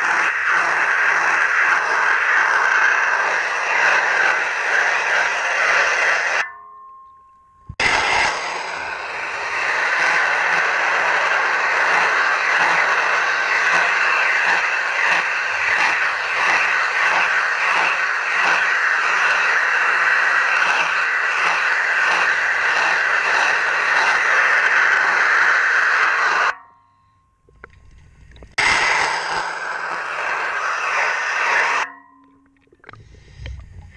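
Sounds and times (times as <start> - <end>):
underwater hiss: 0.0 - 6.4, 7.8 - 26.6, 28.6 - 31.9.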